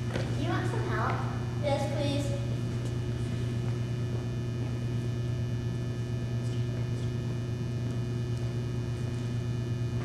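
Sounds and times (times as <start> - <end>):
electrical mains hum: 0.0 - 10.0
faint buzz: 0.0 - 10.0.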